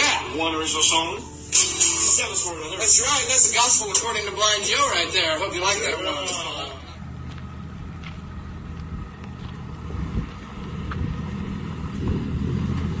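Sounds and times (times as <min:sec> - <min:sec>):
truck engine running low: 0:00.0 - 0:13.0.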